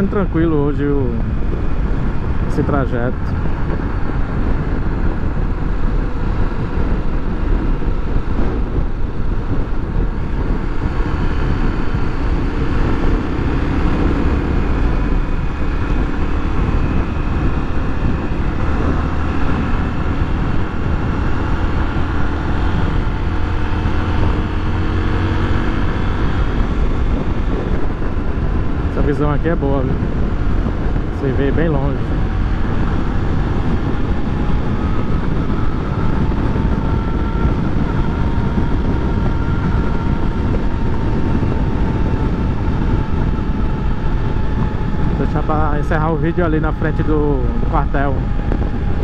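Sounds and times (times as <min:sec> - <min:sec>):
motorcycle engine running: 0:00.0 - 0:49.0
wind noise on microphone: 0:00.0 - 0:49.0.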